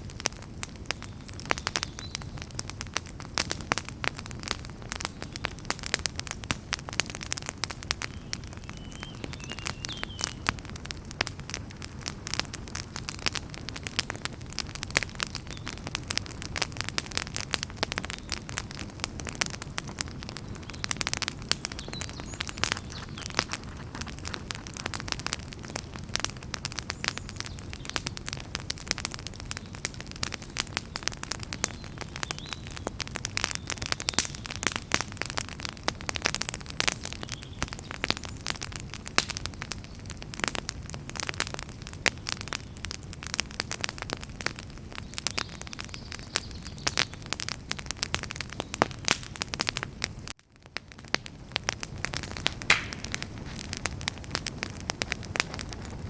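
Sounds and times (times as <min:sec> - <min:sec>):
low rumble of flame: 0:00.0 - 0:56.0
wood fire crackling and popping: 0:00.0 - 0:56.0.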